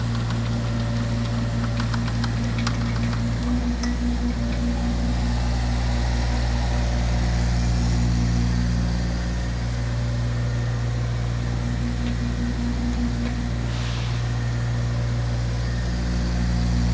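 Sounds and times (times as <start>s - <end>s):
small diesel engine running: 0.0s - 16.9s.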